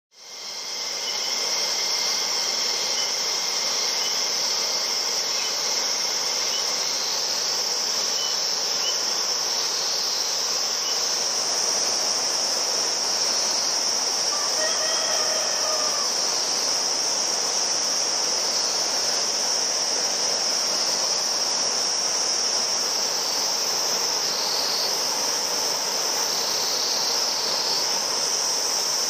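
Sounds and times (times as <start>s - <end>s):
insects trilling: 0.2s - 29.0s
rushing river: 0.2s - 29.0s.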